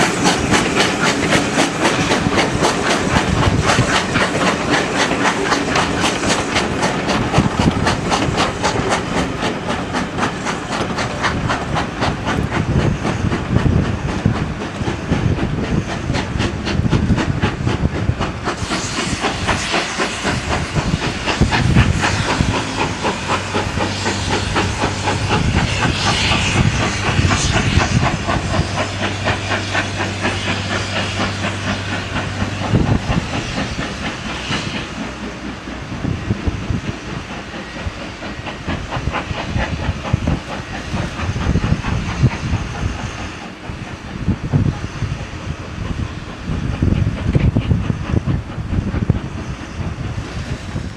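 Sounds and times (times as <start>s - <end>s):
loud hiss of steam: 0.0s - 50.9s
steam locomotive running: 0.0s - 50.9s.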